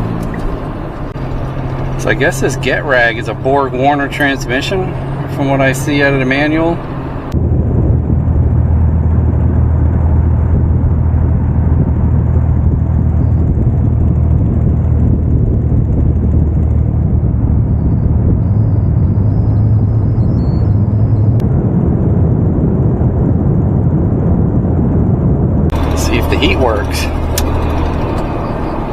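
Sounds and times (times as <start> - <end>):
car engine drone: 0.0 - 28.9
tyre and road rumble: 0.0 - 28.9.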